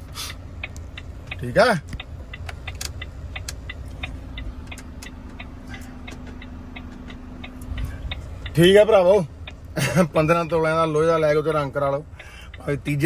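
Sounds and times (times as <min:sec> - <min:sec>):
truck engine idling: 0:00.0 - 0:13.0
light rapid ticking: 0:00.3 - 0:13.0.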